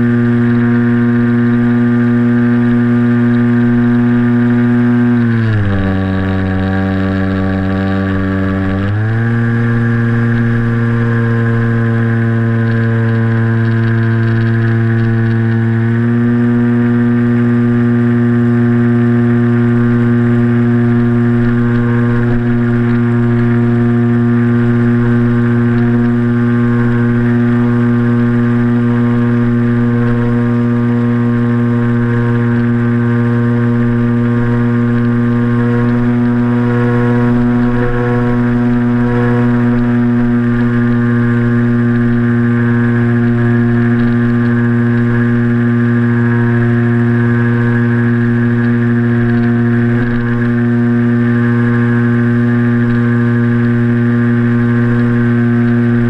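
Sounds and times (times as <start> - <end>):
model plane motor droning whine: 0.0 - 56.0.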